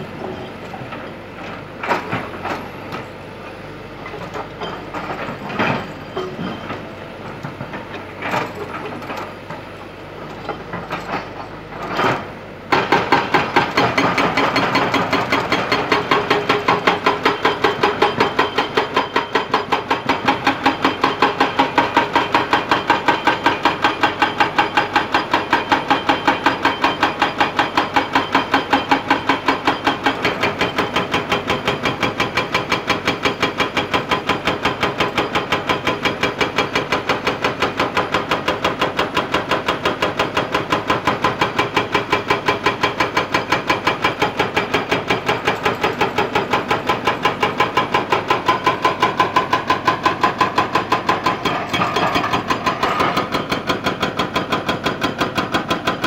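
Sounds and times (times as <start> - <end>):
hydraulic rock breaker hammering stone: 0.0 - 56.0.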